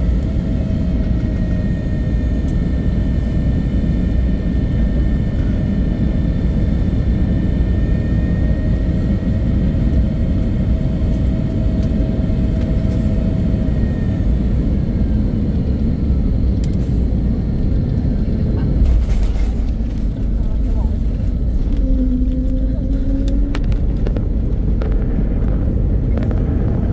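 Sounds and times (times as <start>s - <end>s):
jet engine whine: 0.0s - 26.9s
jet low rumble: 0.0s - 26.9s.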